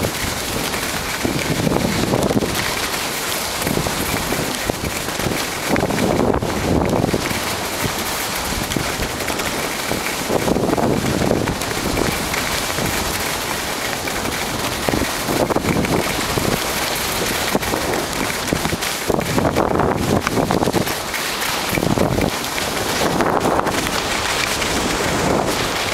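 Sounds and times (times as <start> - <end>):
skis scraping over snow: 0.0 - 25.9
wind on microphone: 0.0 - 25.9.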